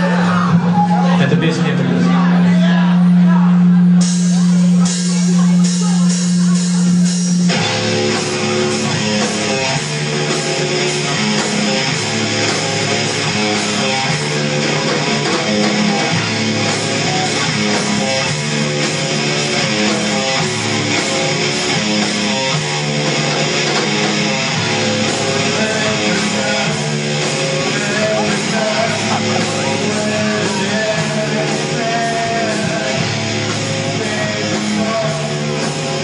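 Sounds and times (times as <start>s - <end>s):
bass guitar: 0.0s - 36.0s
electric guitar: 0.0s - 36.0s
live rock band playing: 0.0s - 36.0s.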